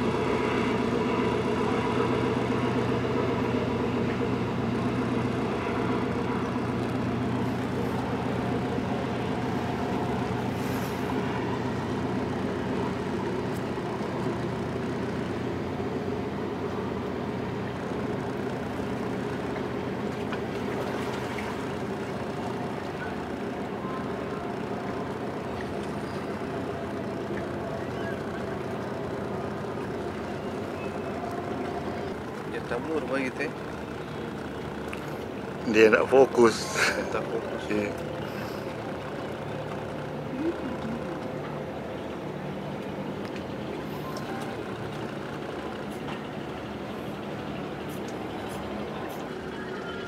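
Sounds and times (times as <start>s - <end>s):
ship diesel engines humming: 0.0s - 50.0s.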